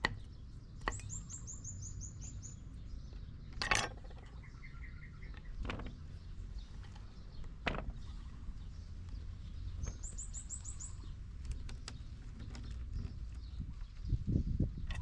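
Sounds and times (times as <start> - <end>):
low outdoor rumble: 0.0 - 15.0
small bird chirping: 0.0 - 15.0.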